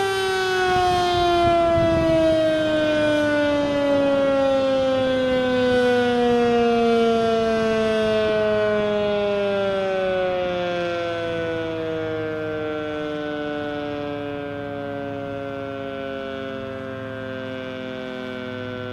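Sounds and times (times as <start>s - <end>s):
warning siren winding down: 0.0s - 18.9s.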